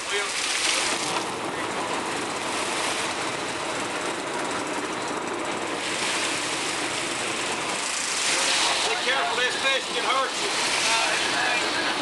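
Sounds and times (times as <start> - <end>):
water rushing past hull: 0.0 - 4.2, 5.6 - 12.0
boat engines running: 0.0 - 12.0.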